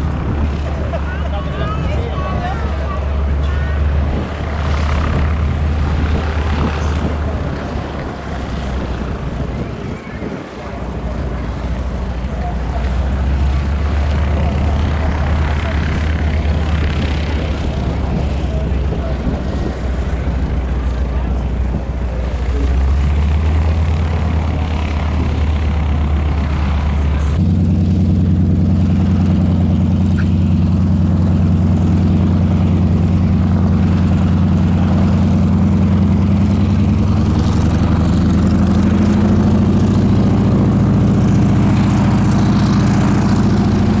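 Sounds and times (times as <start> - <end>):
engine running: 0.0 - 44.0.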